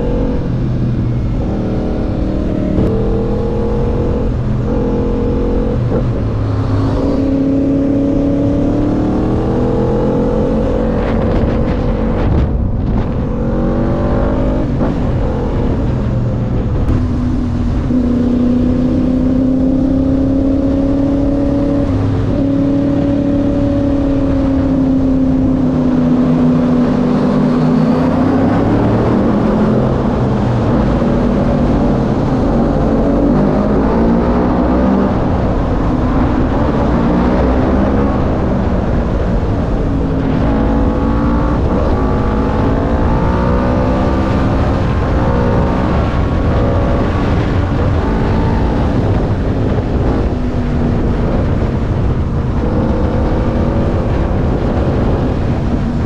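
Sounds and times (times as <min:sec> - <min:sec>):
constant low rumble: 0:00.0 - 0:20.7, 0:21.8 - 0:56.0.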